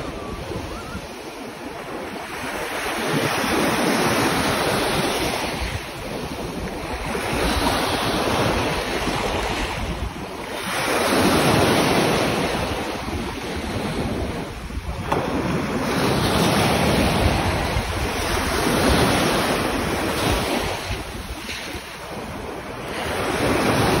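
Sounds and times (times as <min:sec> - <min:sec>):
small waves washing over sand: 0:00.0 - 0:24.0
wind rumbling on microphone: 0:00.0 - 0:24.0.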